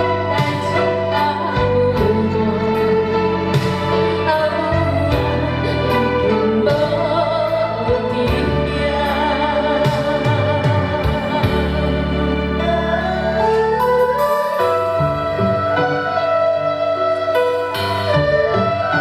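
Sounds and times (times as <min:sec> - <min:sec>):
low bass notes: 0:00.0 - 0:19.0
person singing: 0:00.0 - 0:19.0
traditional orchestra melody: 0:00.0 - 0:19.0.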